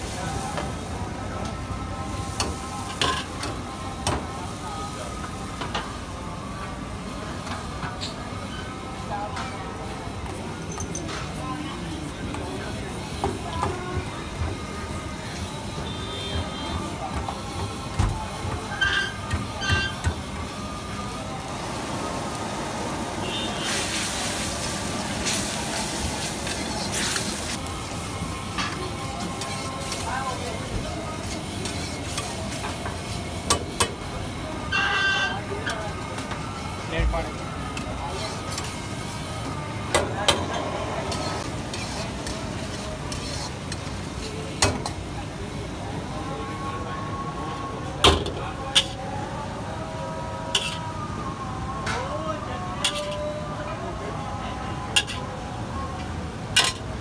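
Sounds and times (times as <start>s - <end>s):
frying sizzle: 0.0s - 9.0s, 9.6s - 46.9s.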